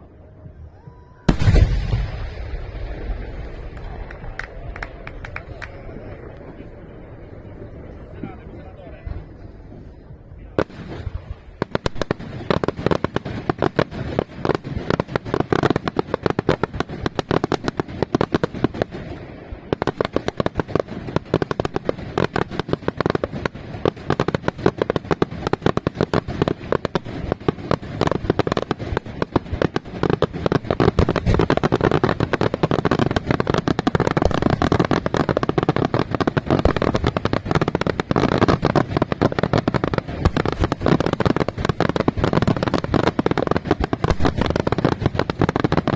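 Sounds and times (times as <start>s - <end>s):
fireworks crackle: 0.0s - 45.9s.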